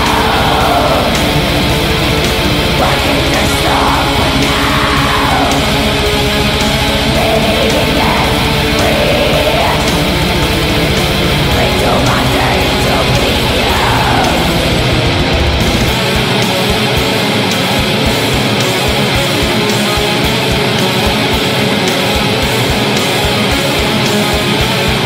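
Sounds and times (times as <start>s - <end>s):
distorted electric guitars: 0.0s - 25.0s
drums: 0.0s - 25.0s.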